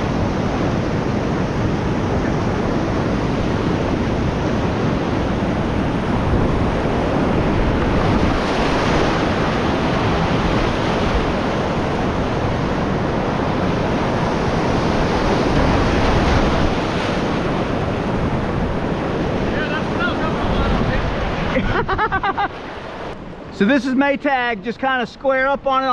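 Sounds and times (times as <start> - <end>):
wind buffeting microphone: 0.0 - 23.5.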